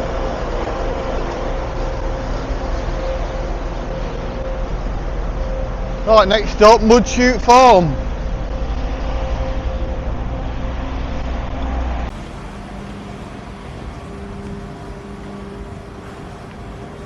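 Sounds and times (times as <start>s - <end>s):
steady low hum: 0.0s - 17.0s
traffic rumble: 0.0s - 17.0s.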